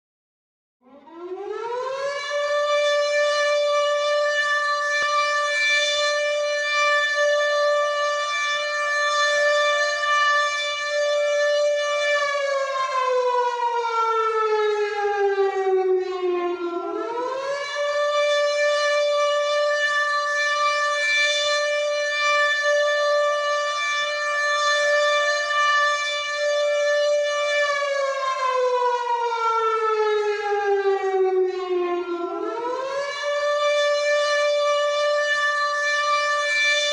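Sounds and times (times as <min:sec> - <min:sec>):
air raid siren wailing: 0:00.8 - 0:36.9.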